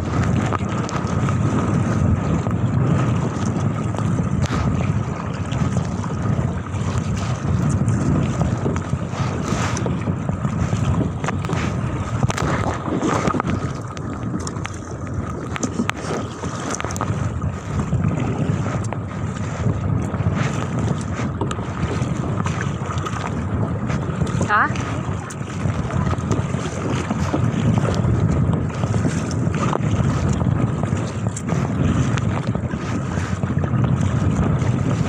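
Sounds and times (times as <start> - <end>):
water slapping against a kayak: 0.0 - 35.0
wind buffeting the microphone: 0.0 - 35.0.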